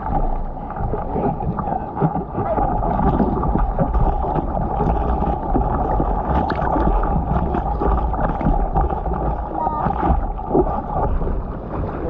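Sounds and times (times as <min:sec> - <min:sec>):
water sloshing and churning: 0:00.0 - 0:12.0
wind on microphone: 0:00.0 - 0:12.0.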